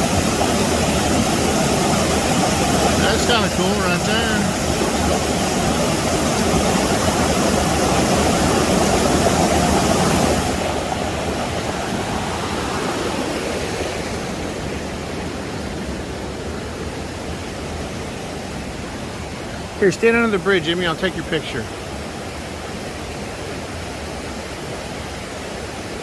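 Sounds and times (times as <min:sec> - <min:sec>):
waterfall rushing into stream: 0:00.0 - 0:26.0.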